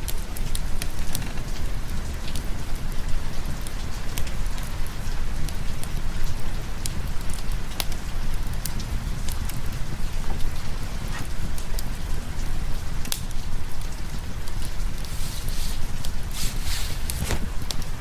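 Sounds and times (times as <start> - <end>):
continuous low rumble: 0.0 - 18.0
heavy rain: 0.0 - 18.0
sharp raindrop ticks: 0.0 - 18.0.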